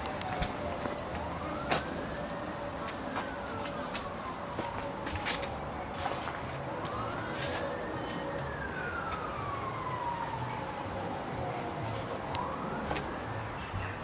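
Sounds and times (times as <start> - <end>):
wailing siren: 0.0 - 14.0.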